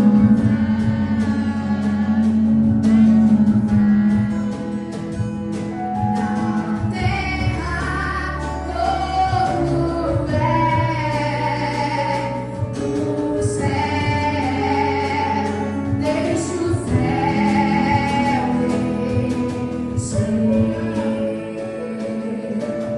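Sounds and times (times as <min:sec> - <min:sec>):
gospel choir singing held notes: 0:00.0 - 0:22.9
sustained low accompaniment: 0:00.0 - 0:22.9.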